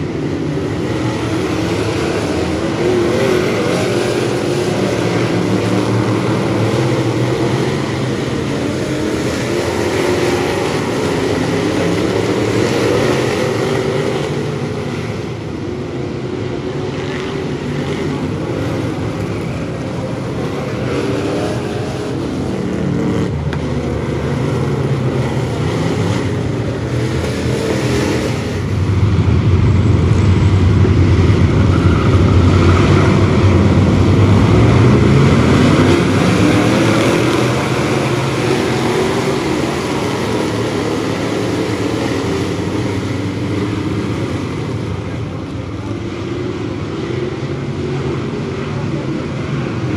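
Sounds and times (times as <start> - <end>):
stock car engines racing: 0.0 - 49.9.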